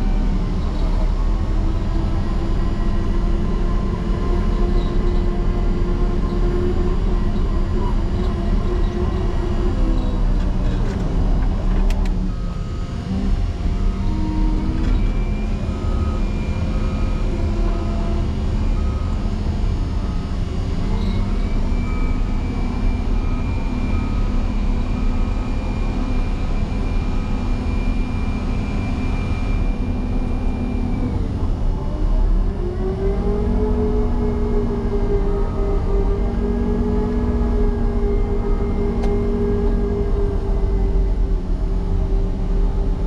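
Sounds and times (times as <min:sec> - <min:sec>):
diesel engine running hard: 0:00.0 - 0:43.0.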